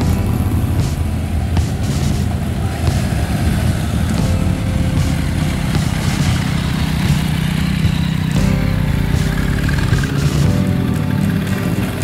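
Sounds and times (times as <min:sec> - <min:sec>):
motorcycles riding slowly past: 0:00.0 - 0:12.0.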